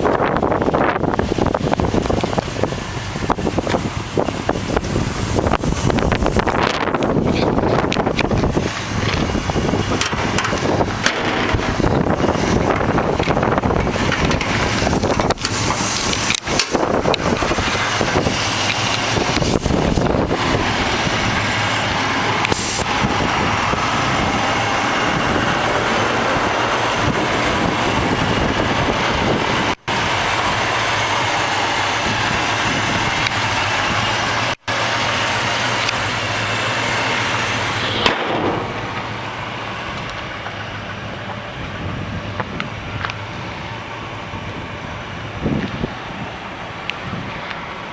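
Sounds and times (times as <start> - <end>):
loud engine running: 0.0 - 47.9.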